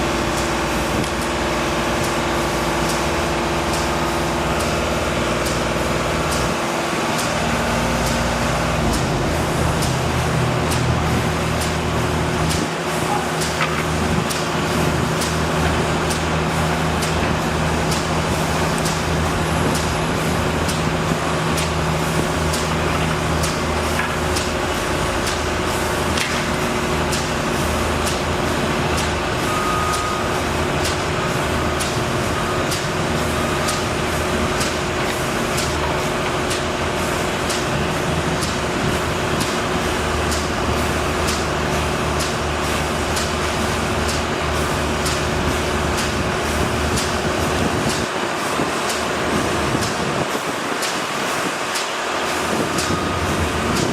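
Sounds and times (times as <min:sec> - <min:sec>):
large engine humming: 0:00.0 - 0:53.9.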